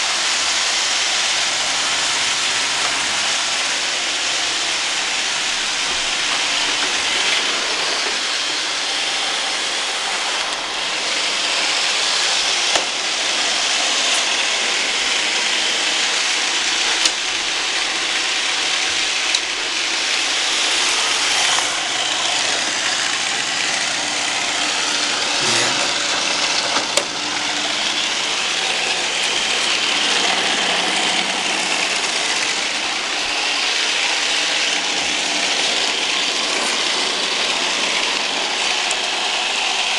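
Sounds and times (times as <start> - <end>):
robot vacuums whirring: 0.0 - 39.9.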